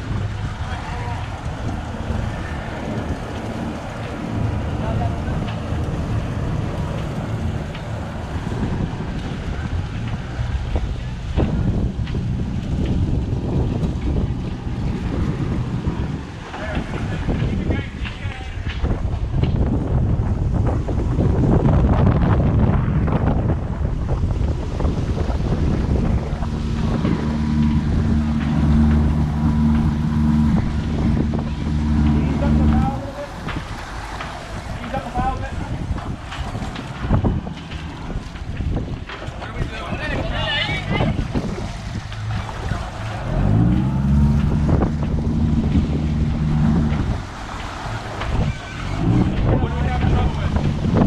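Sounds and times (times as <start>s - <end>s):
boat engine humming: 0.0s - 51.0s
gusty wind buffeting microphone: 0.0s - 51.0s.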